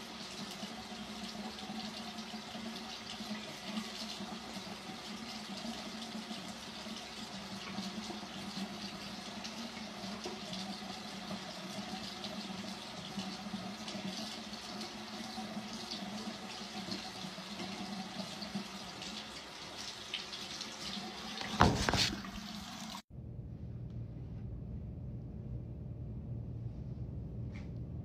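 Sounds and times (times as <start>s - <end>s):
faucet running into a sink: 0.0s - 23.0s.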